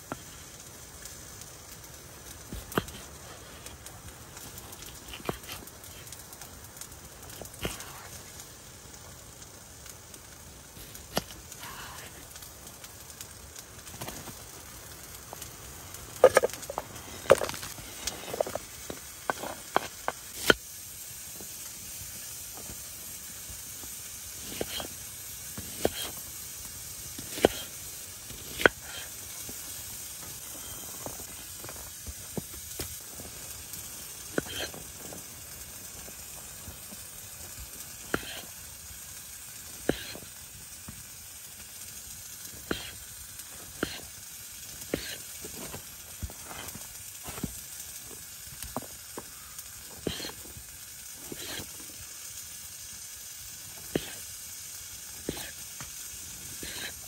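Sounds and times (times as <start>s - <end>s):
sizzling hiss: 0.0s - 57.0s.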